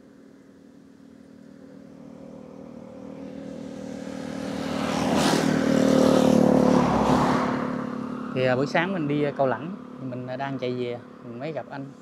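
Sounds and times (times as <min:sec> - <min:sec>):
motor vehicle passing: 0:00.6 - 0:12.0.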